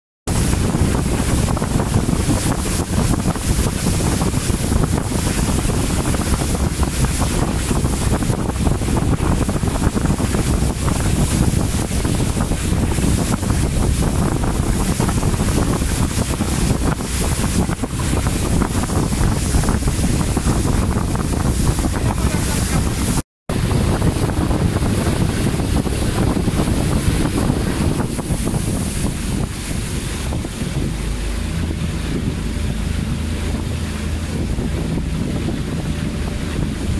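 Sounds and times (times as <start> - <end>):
water rushing along hull: 0.3 - 36.9
wind buffeting microphone: 0.3 - 36.9.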